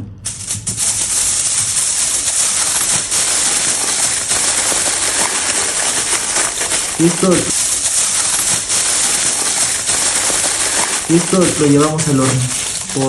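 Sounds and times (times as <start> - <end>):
aluminium foil crinkling: 0.2 - 13.0.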